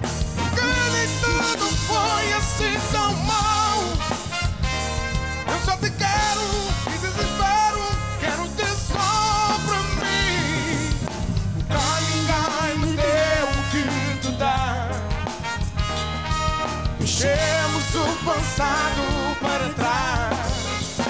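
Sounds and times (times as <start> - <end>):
bass guitar: 0.0 - 21.0
drums and congas: 0.0 - 21.0
piano: 0.0 - 21.0
trombone: 0.0 - 21.0
trumpet: 0.0 - 21.0
man singing: 0.4 - 4.6, 5.5 - 15.6, 17.0 - 21.0.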